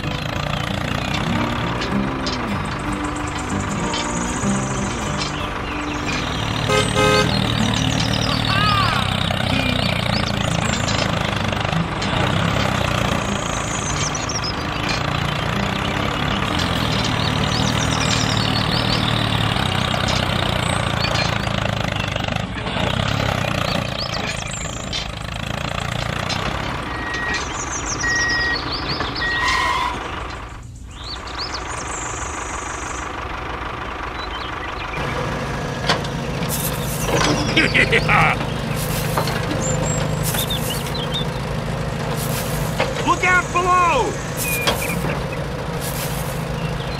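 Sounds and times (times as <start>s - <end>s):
heavy vehicle engine running: 0.0s - 46.9s.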